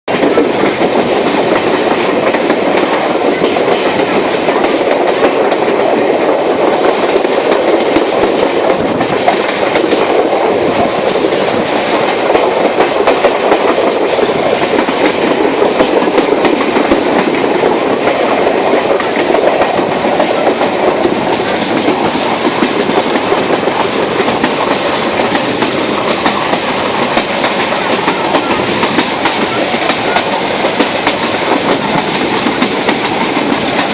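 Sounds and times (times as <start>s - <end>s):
train wheels rumbling on rails: 0.1s - 33.9s.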